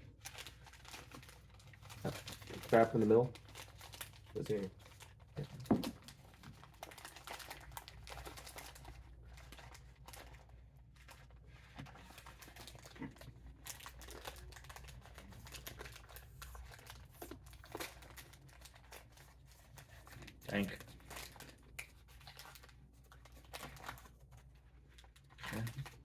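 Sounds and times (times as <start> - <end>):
snack packet crinkling: 0.0 - 26.0.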